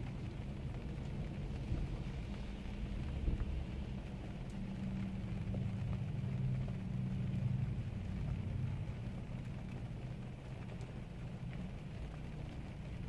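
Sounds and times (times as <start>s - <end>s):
raindrops ticking: 0.0s - 13.0s
road noise: 0.0s - 13.0s.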